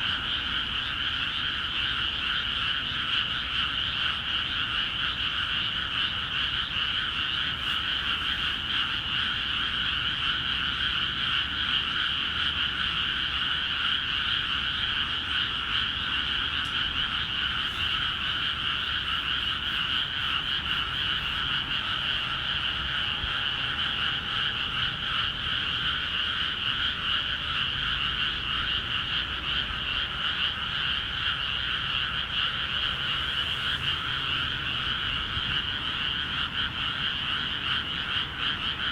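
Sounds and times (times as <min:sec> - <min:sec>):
chorus of frogs calling: 0:00.0 - 0:38.9.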